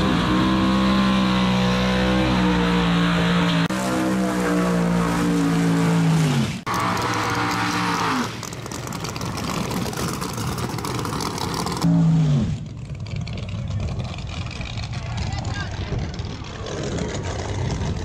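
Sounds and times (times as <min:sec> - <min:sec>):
racing car engines revving: 0:00.0 - 0:18.0
rough engine rumble: 0:00.0 - 0:18.0.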